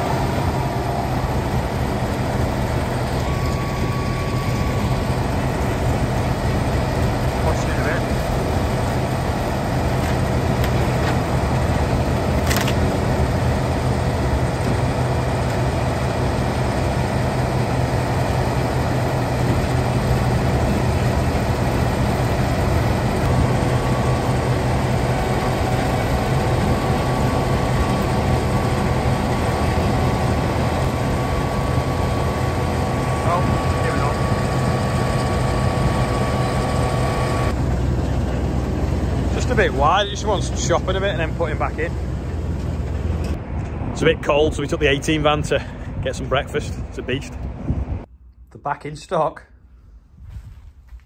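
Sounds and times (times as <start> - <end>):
diesel engines droning: 0.0 - 48.3.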